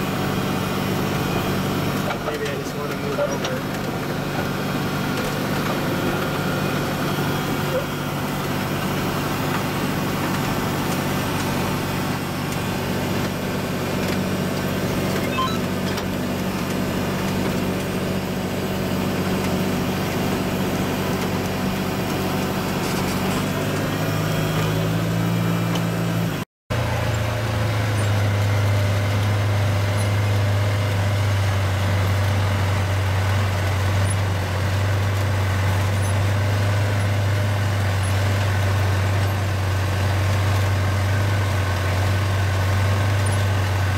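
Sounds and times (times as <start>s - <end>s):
tractor engine humming: 0.0s - 43.9s.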